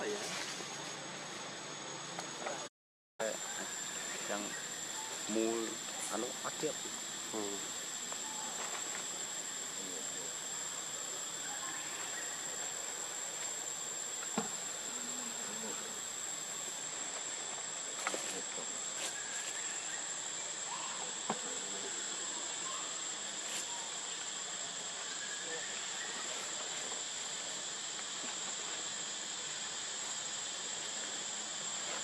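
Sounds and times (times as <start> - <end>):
insects droning: 0.0 - 32.0.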